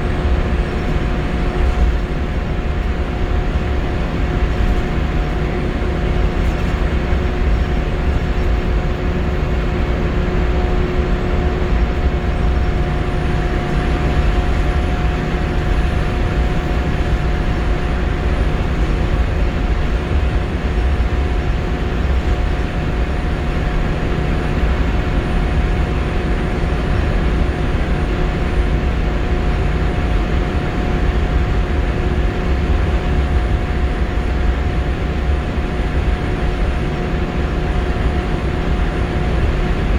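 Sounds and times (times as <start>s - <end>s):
bus engine and road rumble: 0.0s - 39.9s
steady whine: 0.0s - 39.9s.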